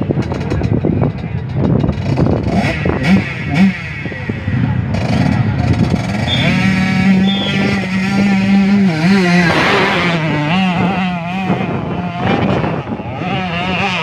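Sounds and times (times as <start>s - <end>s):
dirt bike engine revving: 1.6s - 14.0s.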